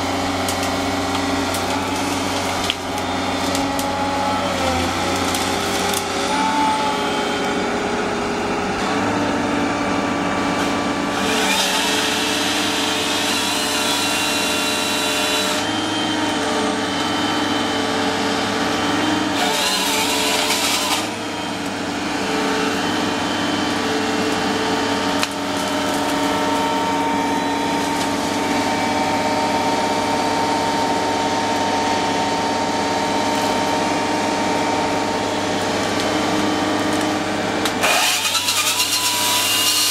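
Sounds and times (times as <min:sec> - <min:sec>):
chainsaw cutting: 0:00.0 - 0:39.9
machine engine and hydraulics: 0:00.0 - 0:39.9.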